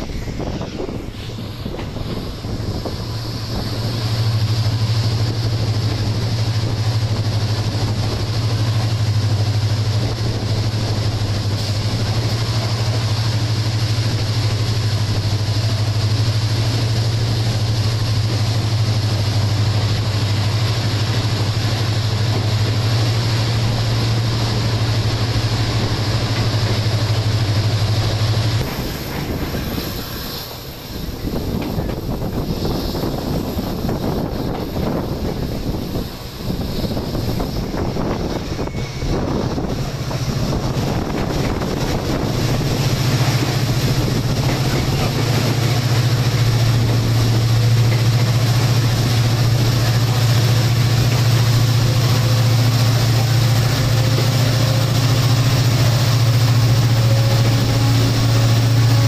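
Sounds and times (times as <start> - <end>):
train interior low drone: 0.0 - 59.0
wheel and rail noise: 0.0 - 59.0.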